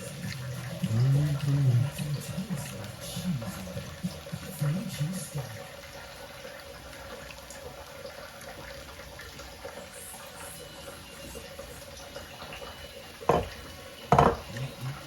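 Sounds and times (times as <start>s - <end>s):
faint watery hiss: 0.0s - 15.0s.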